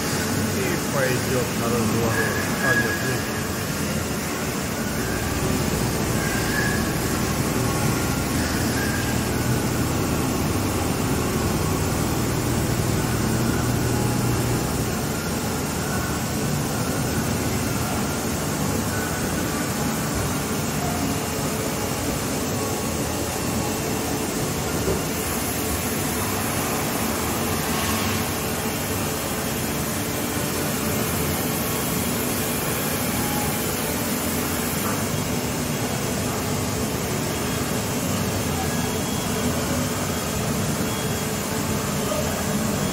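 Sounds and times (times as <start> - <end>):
machine running: 0.0 - 42.9.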